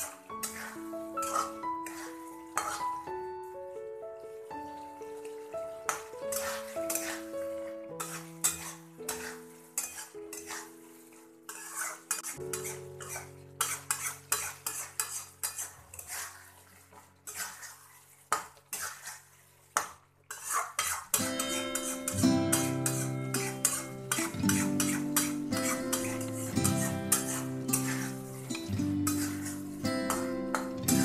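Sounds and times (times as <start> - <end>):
metal spatula scraping a metal pan: 0.0 - 3.1, 5.9 - 31.0
soft background music: 0.0 - 17.7, 21.2 - 31.0.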